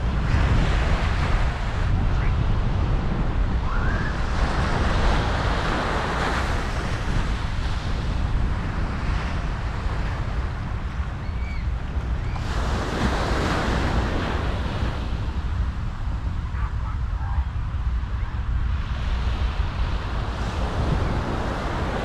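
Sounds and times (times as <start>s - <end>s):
ocean surf breaking on shore: 0.0s - 22.0s
wind buffeting microphone: 0.0s - 22.0s.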